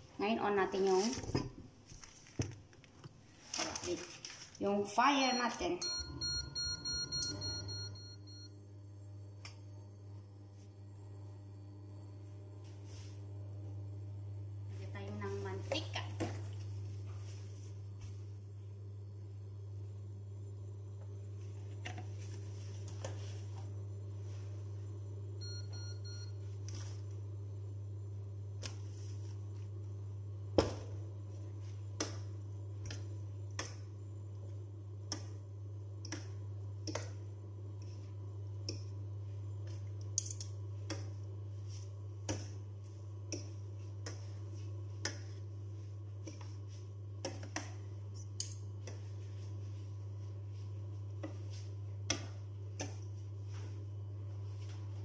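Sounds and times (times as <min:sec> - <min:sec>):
induction cooktop humming: 0:00.0 - 0:55.0.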